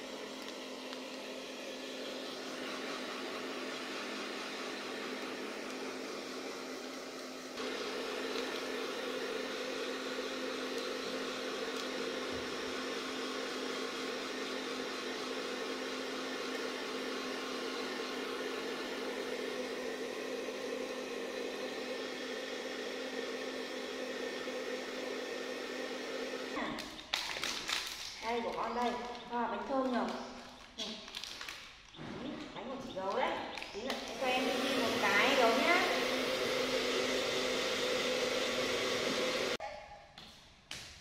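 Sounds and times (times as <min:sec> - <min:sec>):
hair dryer running: 0:00.0 - 0:26.6, 0:33.0 - 0:39.6.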